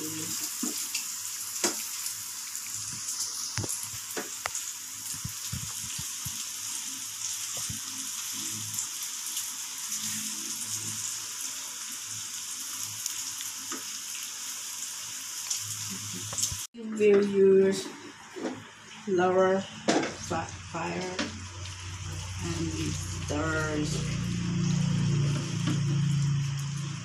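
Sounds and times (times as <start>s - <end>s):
bacon sizzling in a pan: 0.0s - 16.7s, 20.2s - 27.0s.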